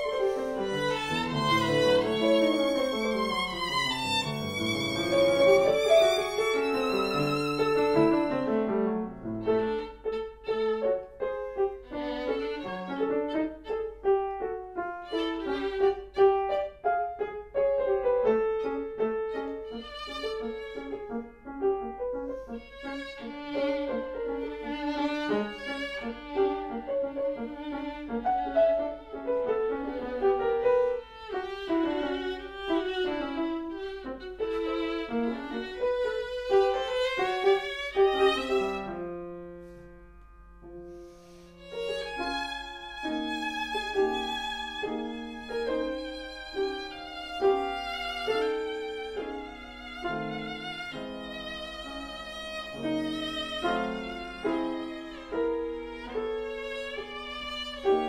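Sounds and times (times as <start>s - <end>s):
violin: 0.0s - 40.3s, 40.9s - 58.0s
piano chords: 0.0s - 58.0s.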